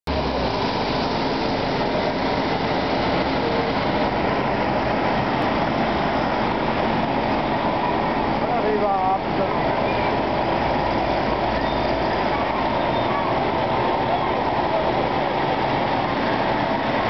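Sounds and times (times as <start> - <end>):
diesel generators droning: 0.1 - 17.0.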